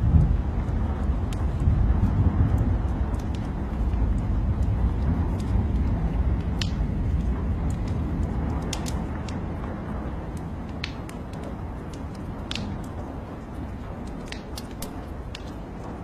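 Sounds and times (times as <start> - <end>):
rain rumbling: 0.0 - 16.0
wood fire crackling: 0.0 - 16.0.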